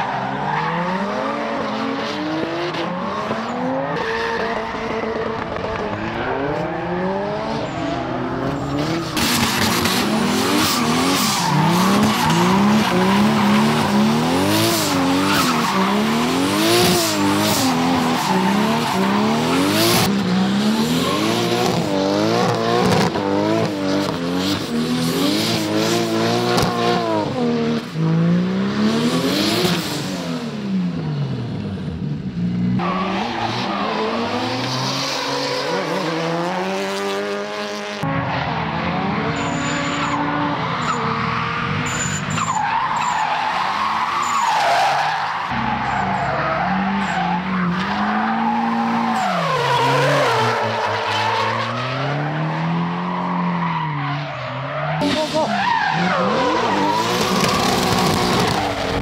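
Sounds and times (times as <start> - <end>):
tyres squealing and skidding: 0.0 - 1.9, 2.8 - 27.2, 32.8 - 36.3, 38.1 - 59.0
car engines revving: 0.0 - 59.0.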